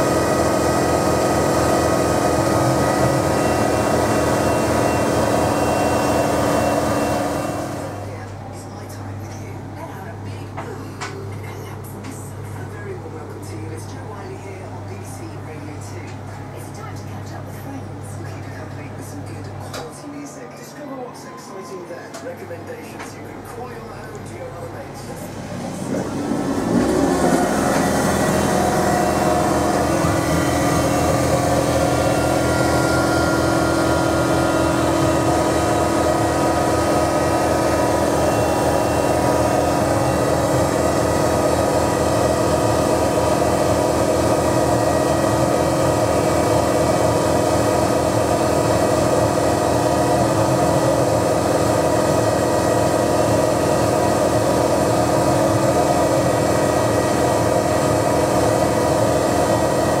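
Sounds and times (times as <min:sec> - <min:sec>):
milling machine running: 0:00.0 - 0:19.9, 0:22.0 - 1:00.0.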